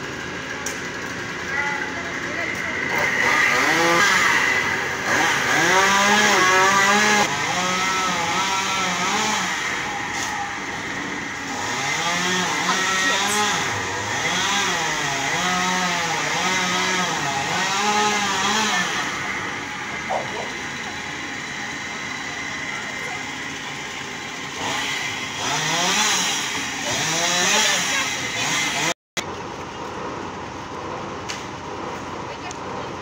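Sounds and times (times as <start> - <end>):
chainsaw revving and cutting: 2.5 - 29.0.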